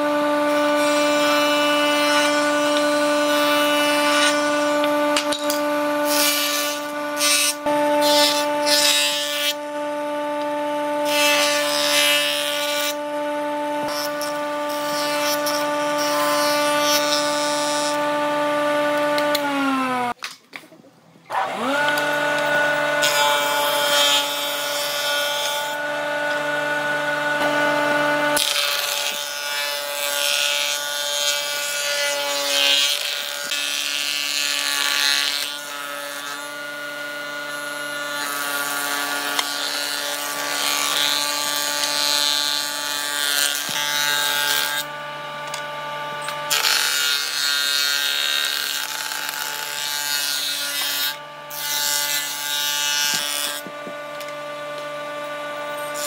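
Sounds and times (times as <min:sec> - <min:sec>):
power tool motor whine: 0:00.0 - 0:20.2, 0:21.3 - 0:56.0.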